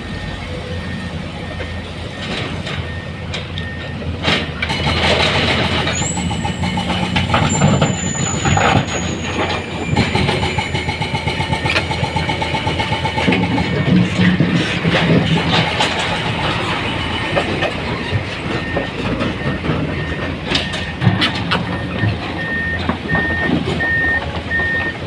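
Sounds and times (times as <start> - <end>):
heavy truck engine running: 0.0 - 25.0
engine rattling and knocking: 4.2 - 25.0.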